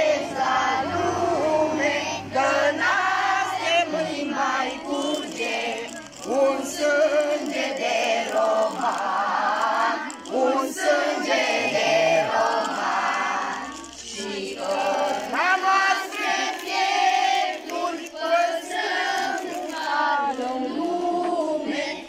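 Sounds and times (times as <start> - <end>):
children and women singing: 0.0 - 22.0.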